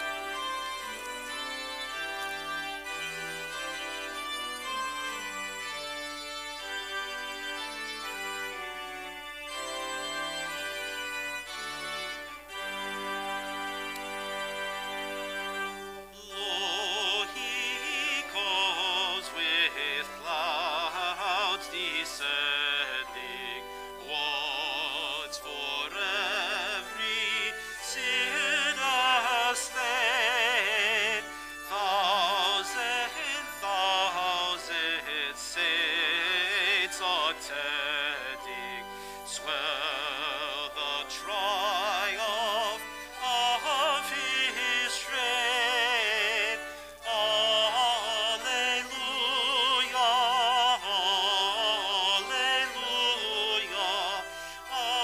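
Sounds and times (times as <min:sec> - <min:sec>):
organ accompaniment: 0:00.0 - 0:55.0
person singing a hymn with vibrato: 0:00.0 - 0:55.0.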